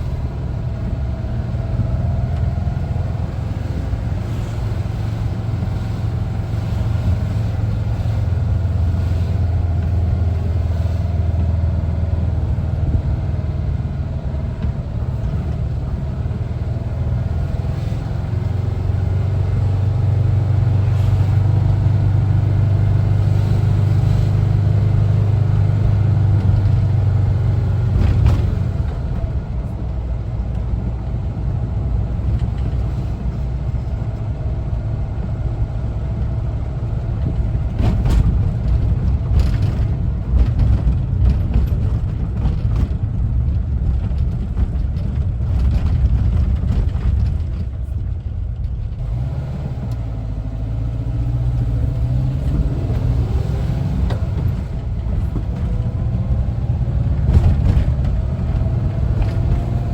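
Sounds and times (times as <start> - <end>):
camper bus engine running: 0.0 - 59.9
road rumble: 0.0 - 59.9.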